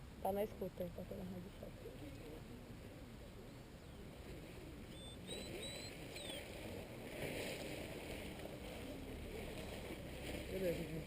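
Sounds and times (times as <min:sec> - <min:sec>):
low steady background rumble: 0:00.0 - 0:11.0.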